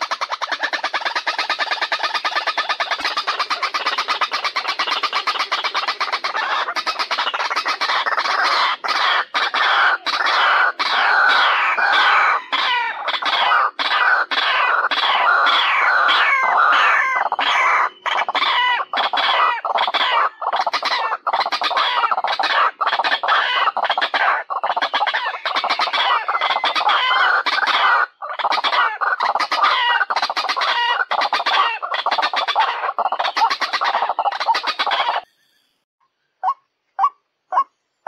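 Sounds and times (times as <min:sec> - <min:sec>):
waterhen calling harshly: 0:00.0 - 0:35.2.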